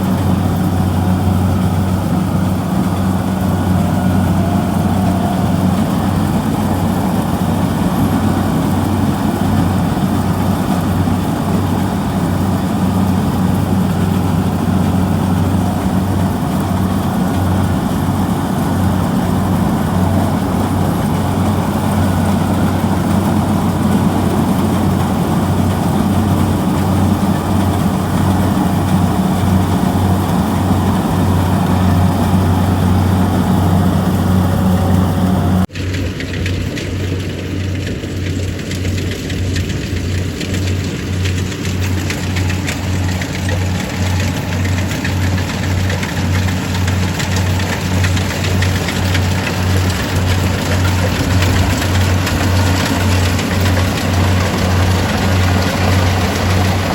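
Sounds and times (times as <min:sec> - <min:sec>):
diesel engine humming: 0:00.0 - 0:56.9.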